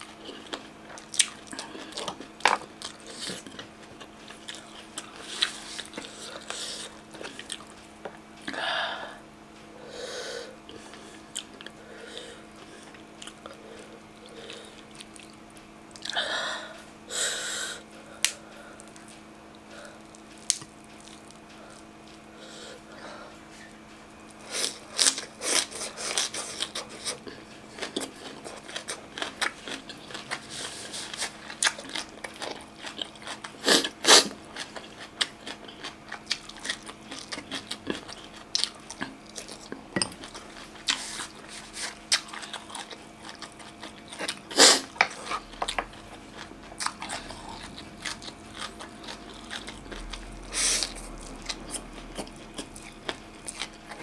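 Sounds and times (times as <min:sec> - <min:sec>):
crunchy chewing: 0:00.0 - 0:08.6, 0:10.6 - 0:16.9, 0:17.8 - 0:54.0.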